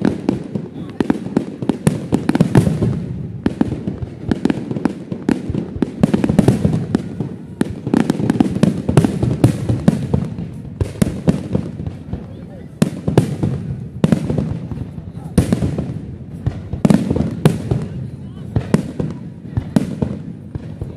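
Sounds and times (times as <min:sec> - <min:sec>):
fireworks bangs and crackles: 0:00.0 - 0:20.9.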